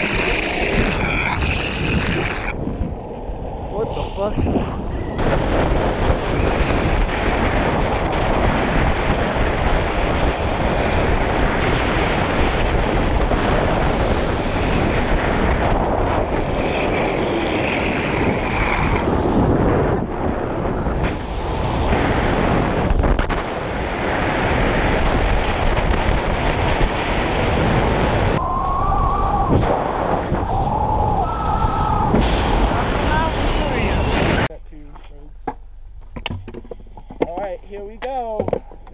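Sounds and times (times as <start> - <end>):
wind buffeting microphone: 0.0 - 34.6.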